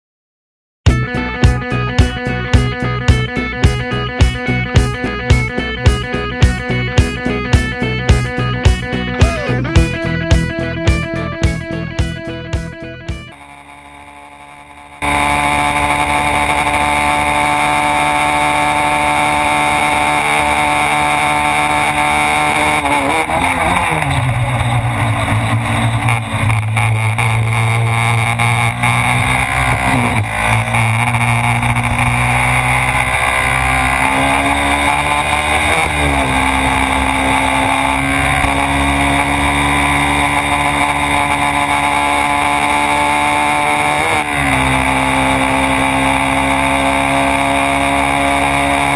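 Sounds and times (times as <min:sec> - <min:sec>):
motorcycle engine running hard: 0:00.9 - 0:48.9.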